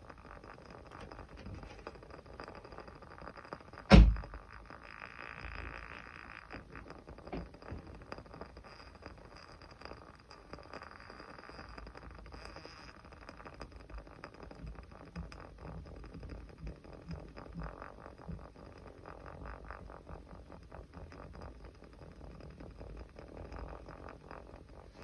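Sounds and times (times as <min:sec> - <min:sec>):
small fire crackling: 0:00.0 - 0:25.0.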